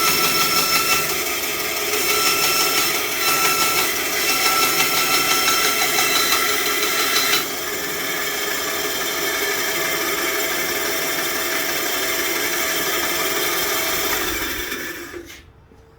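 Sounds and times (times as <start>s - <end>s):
bandsaw running: 0.0s - 15.4s.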